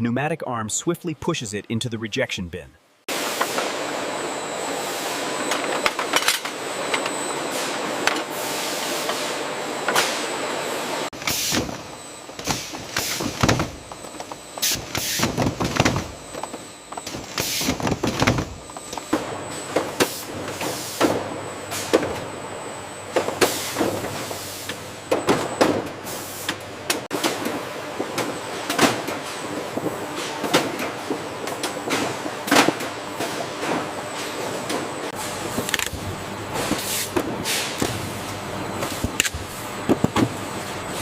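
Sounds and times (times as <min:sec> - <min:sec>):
machinery hissing and humming: 0:03.1 - 0:41.0.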